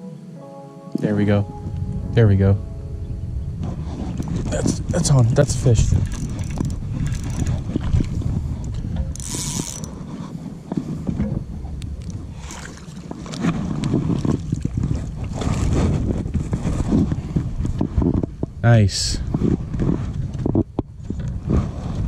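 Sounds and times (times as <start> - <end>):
wind rumble on microphone: 1.2 - 22.0.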